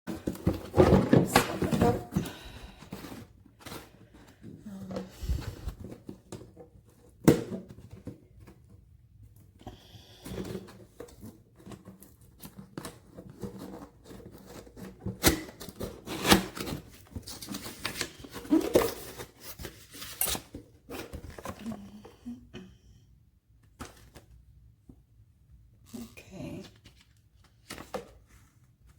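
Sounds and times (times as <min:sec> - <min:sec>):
cardboard and plastic rustling: 0:00.1 - 0:22.5, 0:26.7 - 0:28.9.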